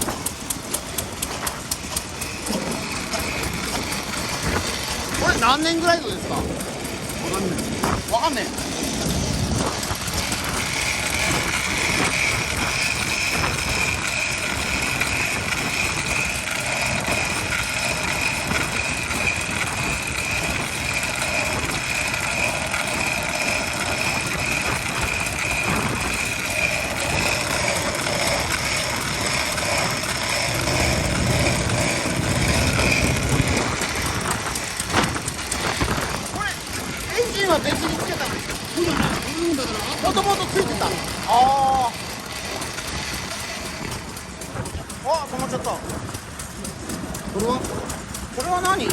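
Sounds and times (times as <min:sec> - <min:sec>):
high whine: 0:00.0 - 0:48.9
stationary engine running: 0:00.0 - 0:48.9.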